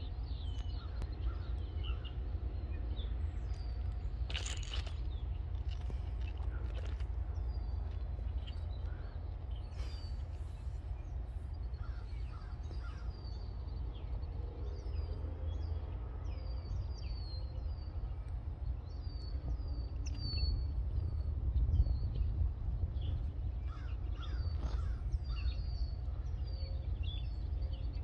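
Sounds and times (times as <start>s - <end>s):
birds chirping: 0.0s - 28.0s
steady low rumble: 0.0s - 28.0s.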